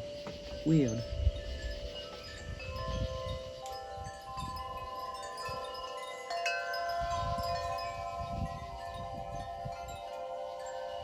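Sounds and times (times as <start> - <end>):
wind chimes ringing: 0.0 - 11.0
wind rumble on microphone: 0.0 - 11.0.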